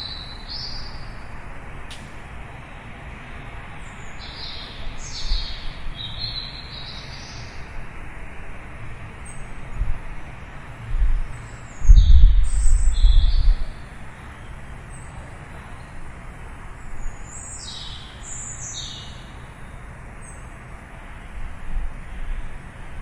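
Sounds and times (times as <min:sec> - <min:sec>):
distant city traffic: 0:00.0 - 0:23.0.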